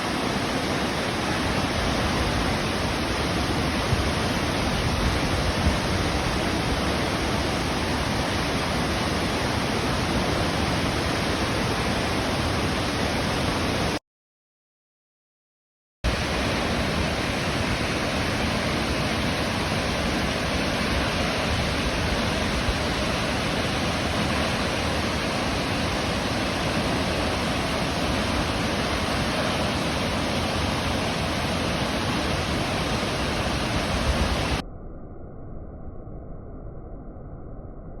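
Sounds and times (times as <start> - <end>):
waterfall rushing: 0.0 - 14.0, 16.1 - 34.6.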